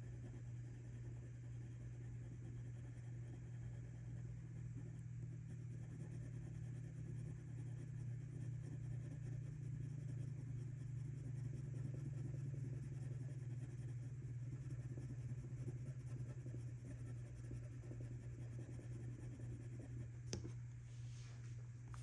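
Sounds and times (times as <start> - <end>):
pencil scratching on paper: 0.0 - 20.6
steady low hum: 0.0 - 22.0.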